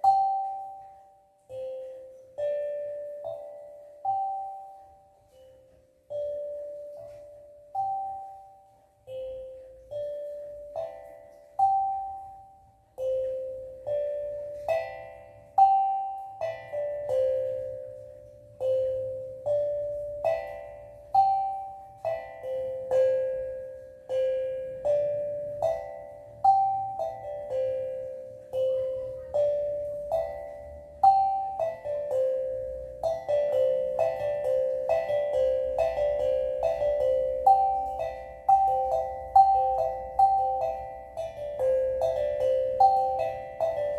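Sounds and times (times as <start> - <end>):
steel tongue drum notes: 0.0 - 43.9.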